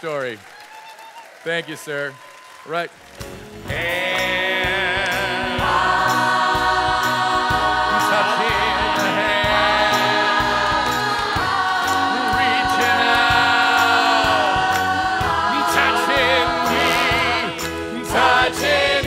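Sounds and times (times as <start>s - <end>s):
live band playing chords: 3.2s - 19.0s
cast singing together: 3.7s - 19.0s.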